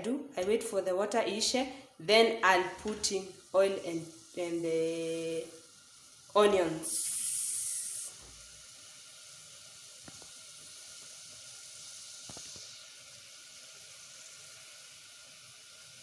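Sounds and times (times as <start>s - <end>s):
water droplets sizzling in hot pot: 0.0s - 16.0s.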